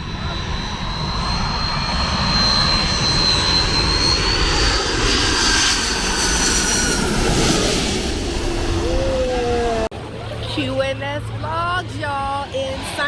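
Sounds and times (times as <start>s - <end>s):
falling whine: 0.0s - 10.5s
airliner engines whining: 0.0s - 13.0s.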